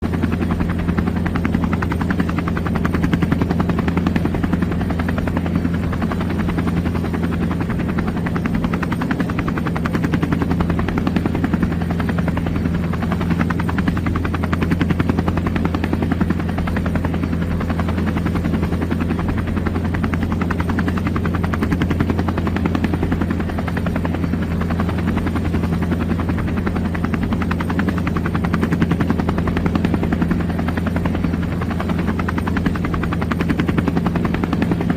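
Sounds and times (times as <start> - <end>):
helicopter rotor beat: 0.0 - 34.9.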